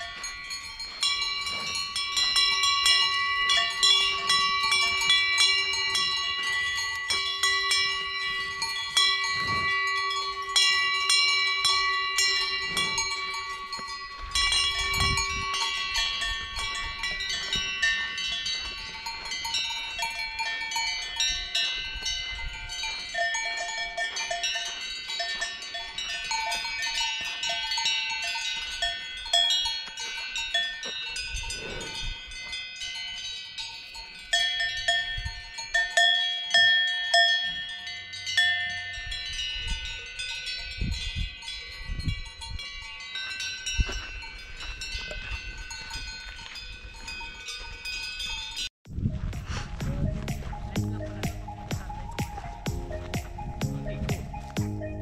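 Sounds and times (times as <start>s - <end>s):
cowbells clanking: 0.0s - 55.0s.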